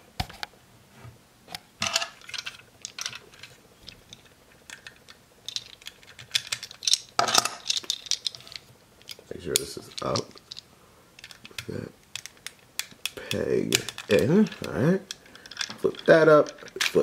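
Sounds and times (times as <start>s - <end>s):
plastic toy parts clicking: 1.9s - 10.6s, 11.2s - 17.0s.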